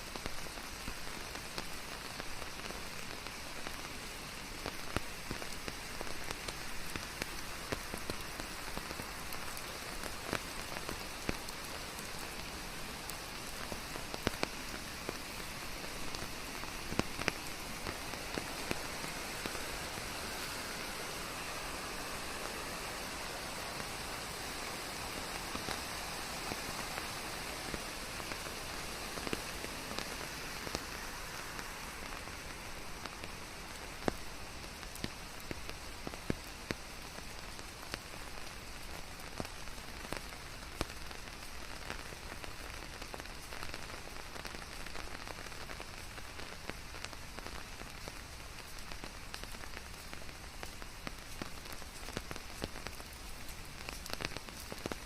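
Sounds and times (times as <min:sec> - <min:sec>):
steady rain hiss: 0:00.0 - 0:55.0
raindrops ticking: 0:00.1 - 0:55.0.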